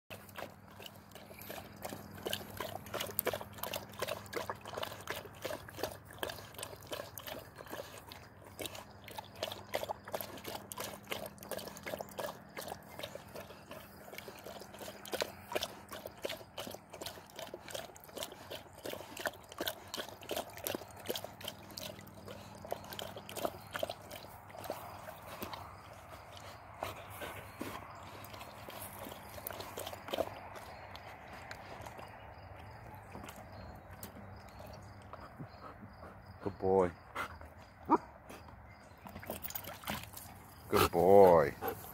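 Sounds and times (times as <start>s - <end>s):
dog lapping and splashing water: 0.1s - 37.4s, 39.0s - 41.9s.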